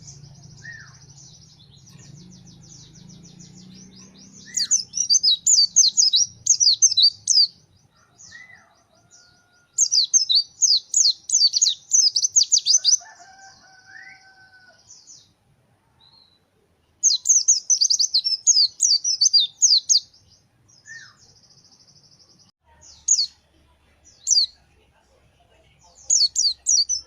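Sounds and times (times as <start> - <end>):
bird chirping with buzzy trill: 0.0 - 15.3, 16.0 - 23.4, 25.9 - 27.0.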